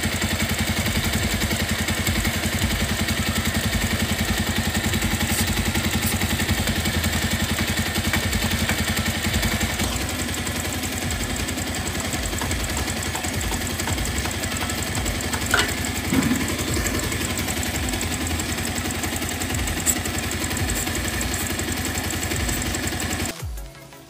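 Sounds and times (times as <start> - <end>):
motorcycle engine idling: 0.0 - 23.6.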